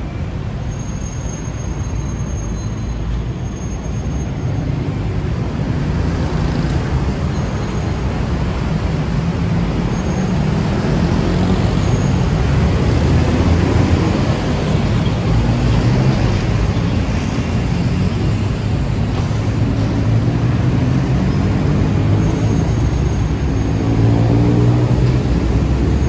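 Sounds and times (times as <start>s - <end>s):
cars and motorbikes passing: 0.0s - 26.0s.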